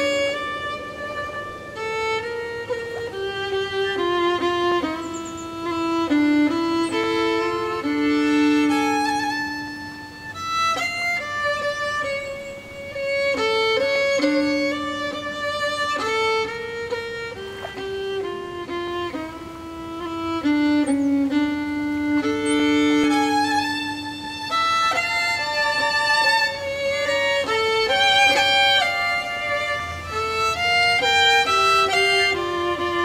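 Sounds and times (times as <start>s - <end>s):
violin duet: 0.0s - 33.0s.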